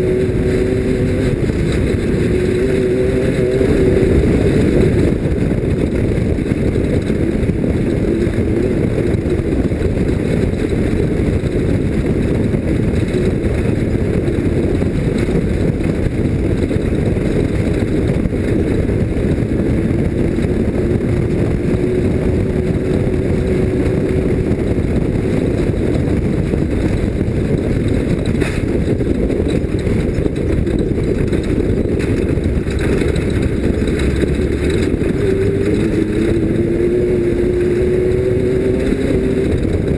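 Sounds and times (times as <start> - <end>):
race vehicle engine running: 0.0 - 39.9.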